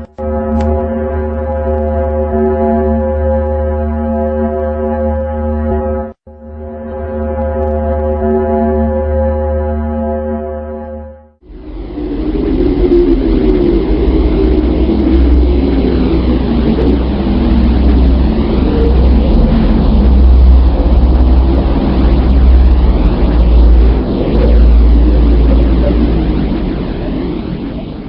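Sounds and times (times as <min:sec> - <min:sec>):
deep rumbling drone: 0:00.0 - 0:28.0.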